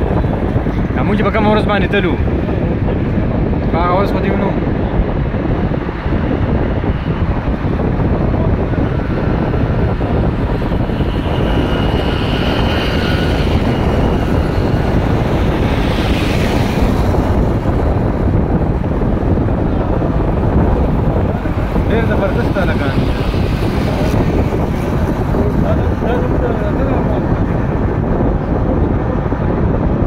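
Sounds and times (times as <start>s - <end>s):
road noise from moving vehicle: 0.0s - 30.0s
wind buffeting microphone: 0.0s - 30.0s.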